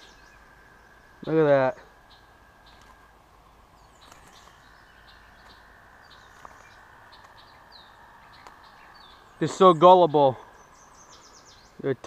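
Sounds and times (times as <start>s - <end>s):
faint high hum: 0.0s - 12.0s.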